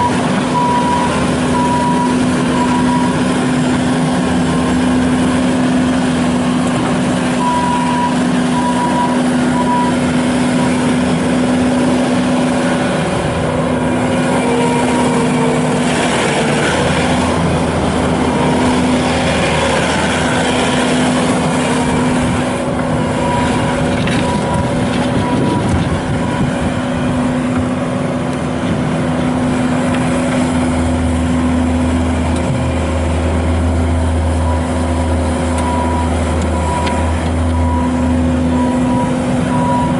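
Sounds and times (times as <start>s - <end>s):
loader diesel engine running: 0.0s - 39.9s.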